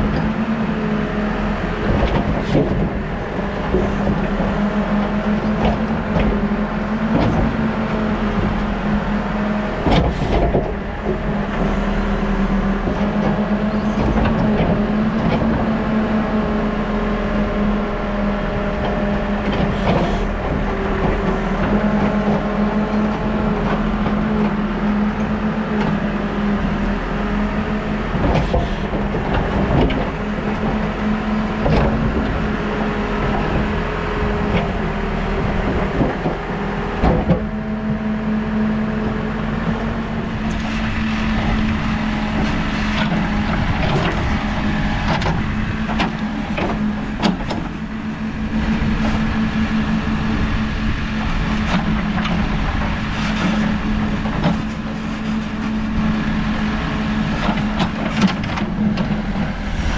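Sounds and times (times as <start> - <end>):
diesel engine running under load: 0.0 - 59.9
hydraulic whine: 0.0 - 59.9.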